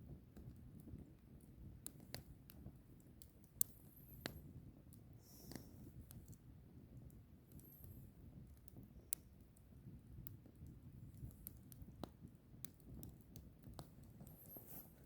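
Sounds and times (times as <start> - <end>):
flames fluttering: 0.0 - 15.0
wood crackling and popping: 0.0 - 15.0.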